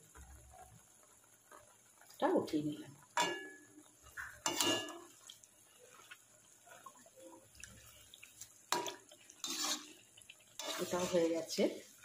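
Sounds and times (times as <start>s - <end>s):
deep-frying sizzle in oil: 0.0s - 12.0s.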